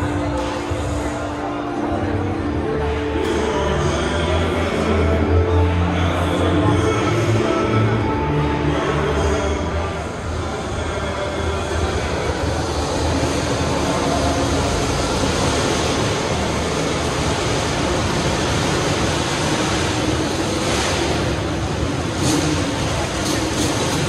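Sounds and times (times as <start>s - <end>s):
vehicle road and engine noise: 0.0s - 24.0s.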